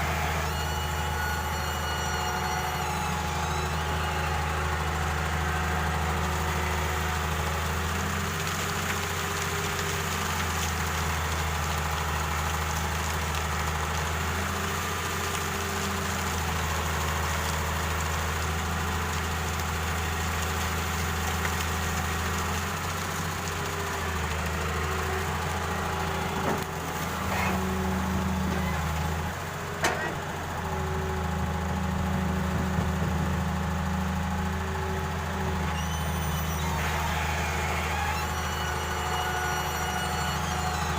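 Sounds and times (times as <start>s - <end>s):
diesel excavator engine running: 0.0s - 40.9s.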